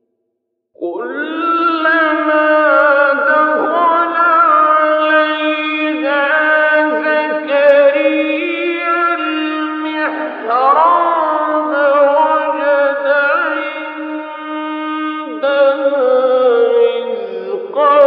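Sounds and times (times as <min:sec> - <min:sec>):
man chanting melodic recitation: 0:00.8 - 0:18.0.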